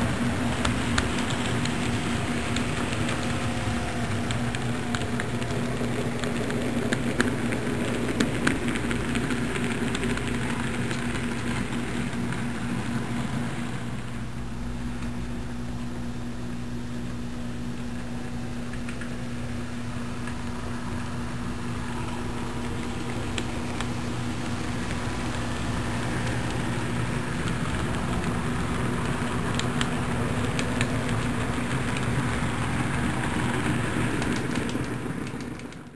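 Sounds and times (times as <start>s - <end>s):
model train wheels clicking: 0.0s - 14.2s, 17.7s - 35.9s
model train hum: 0.0s - 35.9s.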